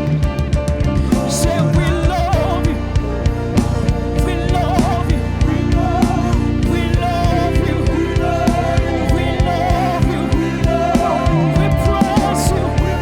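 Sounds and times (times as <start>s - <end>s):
gospel band playing: 0.0s - 13.0s
person singing: 0.9s - 13.0s.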